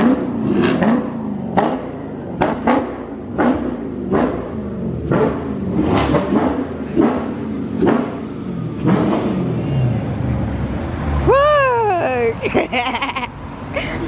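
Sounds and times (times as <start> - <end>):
car engine rumble: 0.0 - 14.0.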